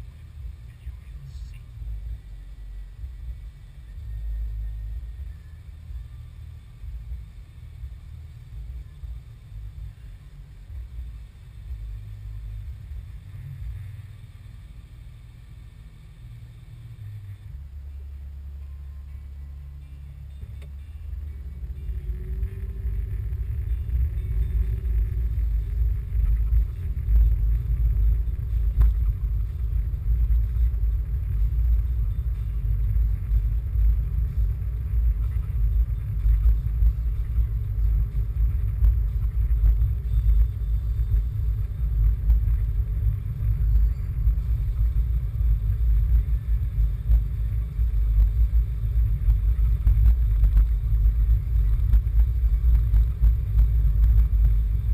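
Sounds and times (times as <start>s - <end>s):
car interior road and engine rumble: 0.0s - 54.9s.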